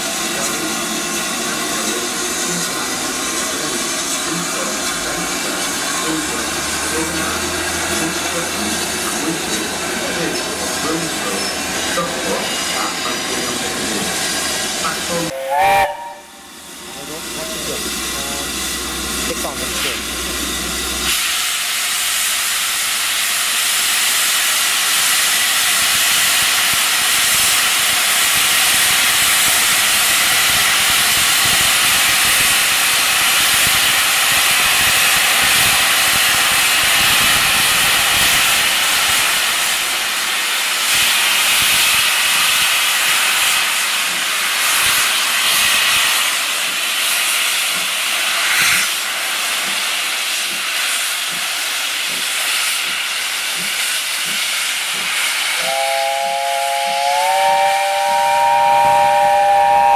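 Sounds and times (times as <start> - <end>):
steam locomotive hissing steam: 0.0 - 59.9.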